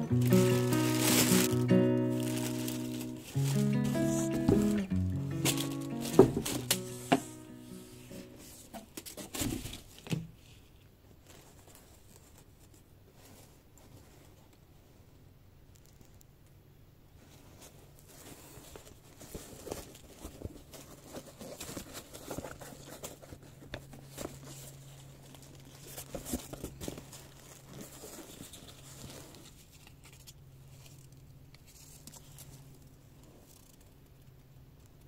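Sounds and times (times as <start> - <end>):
hat and paper tags rustling: 0.0 - 14.6, 17.2 - 33.6.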